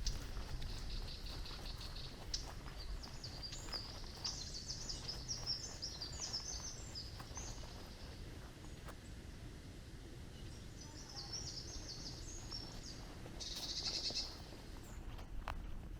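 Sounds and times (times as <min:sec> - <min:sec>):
songbird chirping: 0:00.0 - 0:09.4, 0:10.2 - 0:15.8.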